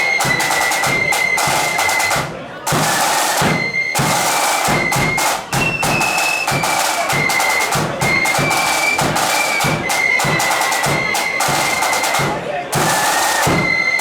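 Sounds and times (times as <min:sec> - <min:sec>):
flutes playing a tune: 0:00.0 - 0:14.0
snare and bass drums: 0:00.0 - 0:14.0.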